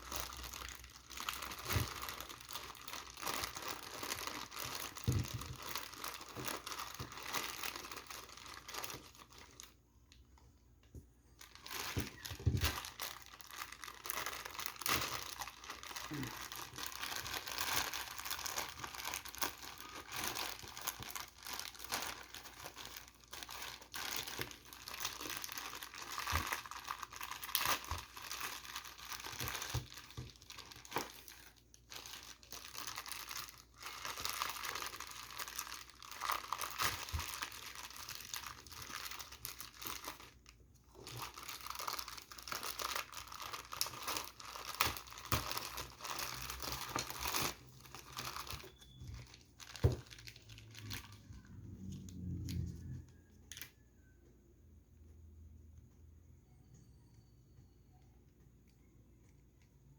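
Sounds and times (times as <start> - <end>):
plastic packaging crinkling and tearing: 0.0 - 10.3, 11.3 - 53.8.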